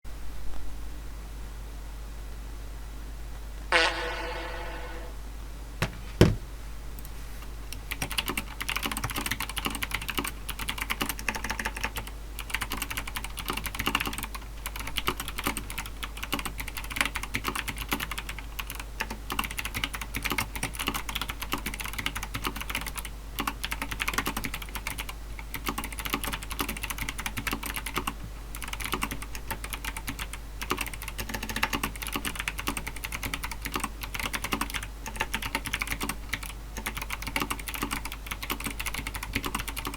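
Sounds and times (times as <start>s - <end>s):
mechanical keyboard clicky typing: 7.8s - 39.9s.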